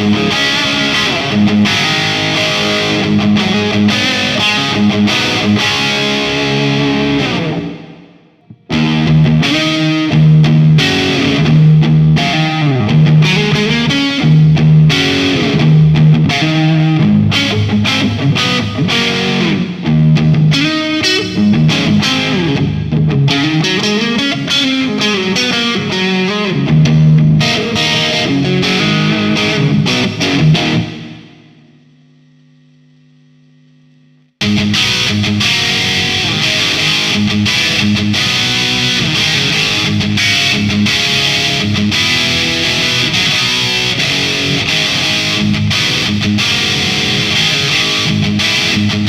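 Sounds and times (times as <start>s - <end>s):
distorted electric guitar riffs: 0.0s - 32.9s, 33.8s - 49.0s.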